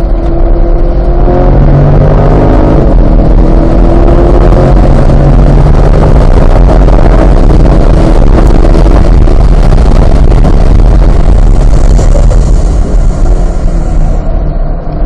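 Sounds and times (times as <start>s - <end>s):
car engine accelerating hard: 0.0s - 15.0s
wind and road noise: 0.0s - 15.0s.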